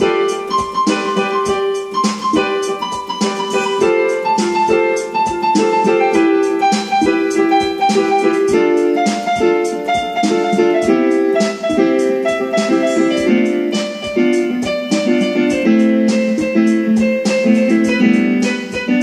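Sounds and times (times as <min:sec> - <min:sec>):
instrumental music: 0:00.0 - 0:19.0.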